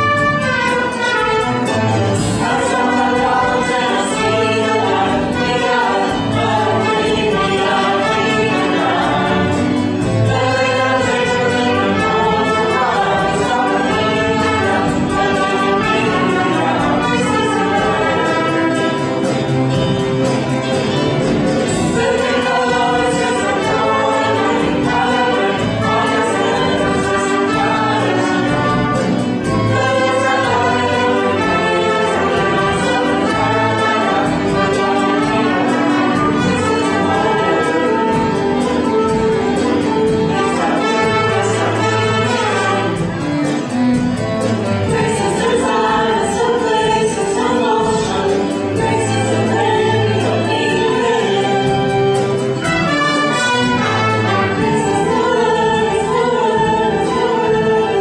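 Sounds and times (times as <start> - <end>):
chorus singing: 0.0 - 58.0
orchestra with brass: 0.0 - 58.0.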